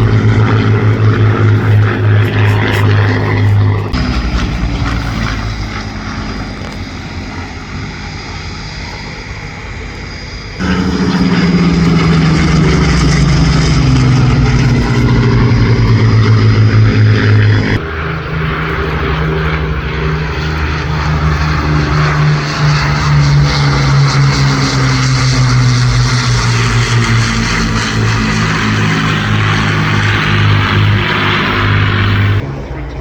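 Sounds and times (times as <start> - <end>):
propeller aircraft flying past: 0.0 - 33.0.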